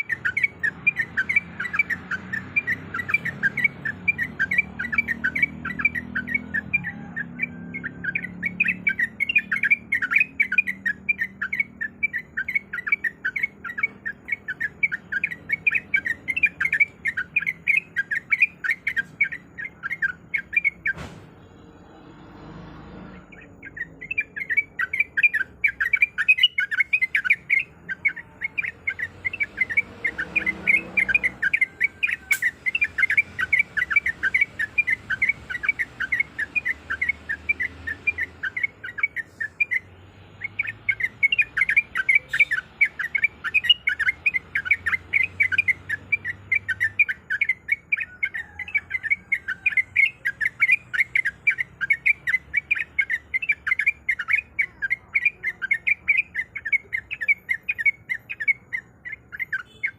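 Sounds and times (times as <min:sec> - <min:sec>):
bird chattering chirps: 0:00.0 - 0:22.0, 0:23.0 - 0:59.9.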